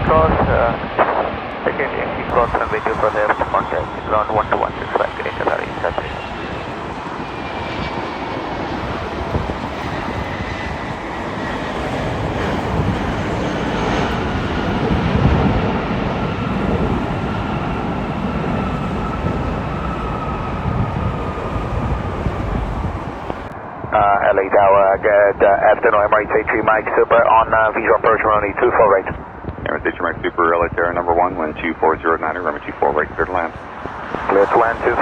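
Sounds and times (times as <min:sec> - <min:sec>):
jet airliner roar: 0:00.0 - 0:35.0.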